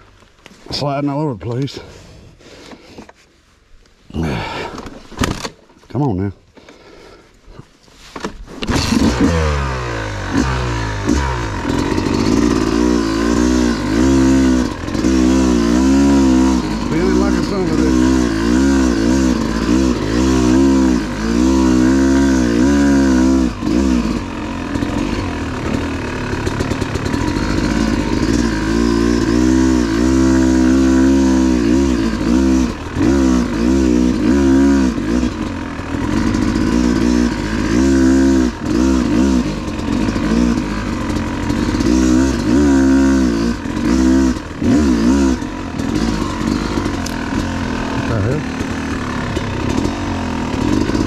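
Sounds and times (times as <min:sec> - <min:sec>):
dirt bike engine revving: 0:08.6 - 0:51.0.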